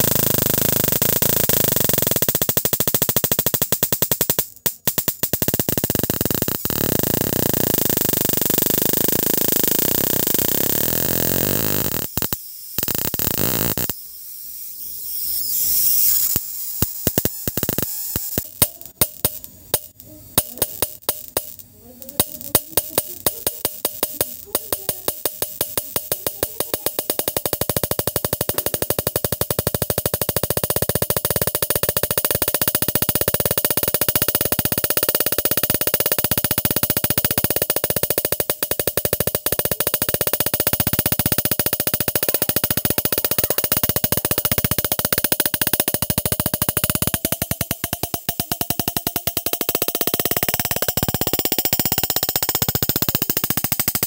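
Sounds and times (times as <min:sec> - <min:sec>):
electric sparks crackling: 0:00.0 - 0:54.0
steady electrical tone: 0:00.0 - 0:54.0.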